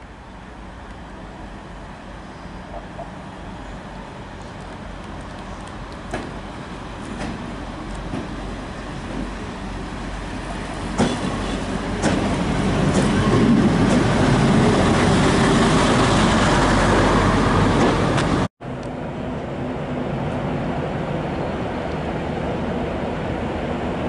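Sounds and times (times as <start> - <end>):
rail trolley engine passing: 0.0 - 24.0.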